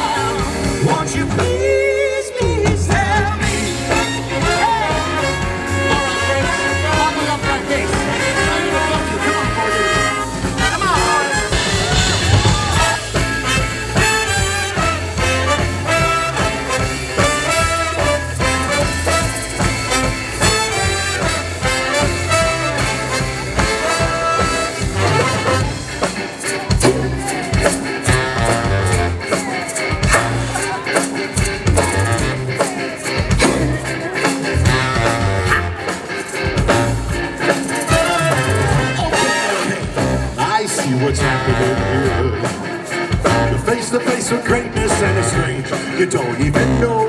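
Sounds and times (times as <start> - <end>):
live swing band playing: 0.0 - 47.0
steady bass line: 0.0 - 47.0.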